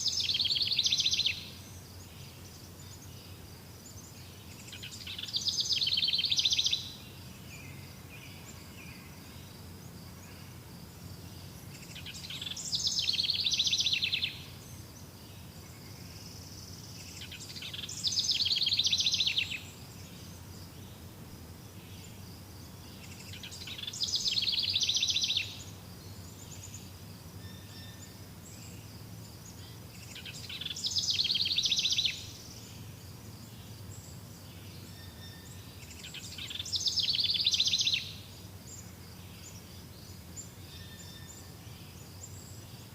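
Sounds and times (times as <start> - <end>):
faint chirping: 0.0 - 42.9.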